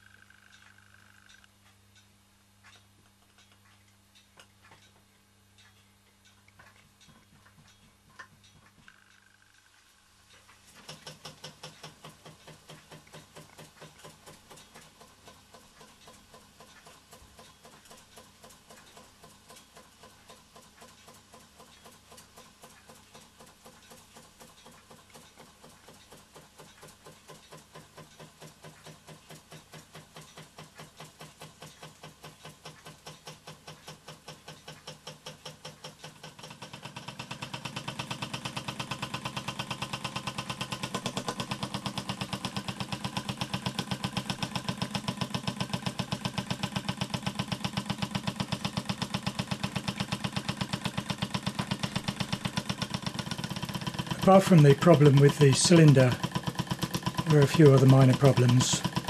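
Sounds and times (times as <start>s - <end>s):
toy steam engine chuffing: 10.6s - 59.0s.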